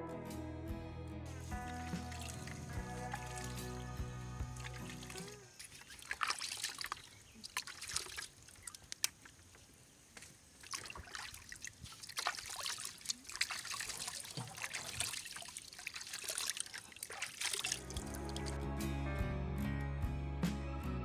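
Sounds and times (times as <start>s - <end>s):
water sloshing and splashing: 1.4s - 18.6s.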